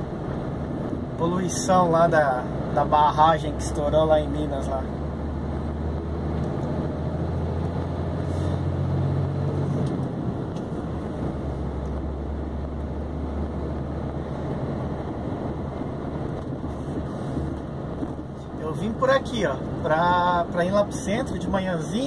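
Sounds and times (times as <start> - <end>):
truck diesel engine droning: 0.0 - 18.6.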